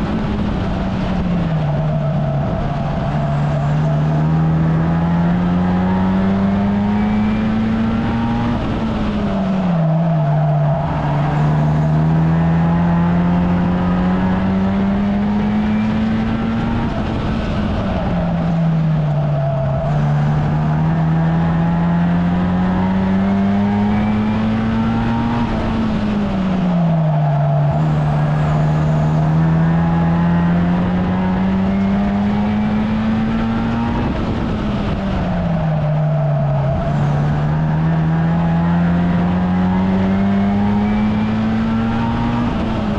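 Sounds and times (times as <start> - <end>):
race car engine at full throttle: 0.0 - 42.9.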